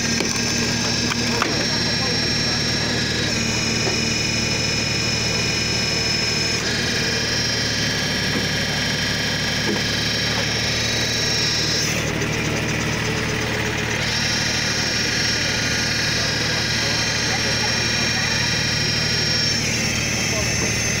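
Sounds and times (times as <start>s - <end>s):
engine humming: 0.0s - 21.0s
hydraulic pump whine: 0.0s - 21.0s.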